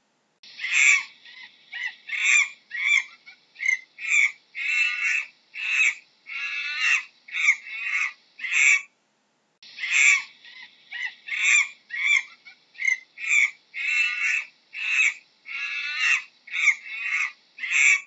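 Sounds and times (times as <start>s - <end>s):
high-pitched monkey calls: 0.4s - 8.9s, 9.6s - 18.0s.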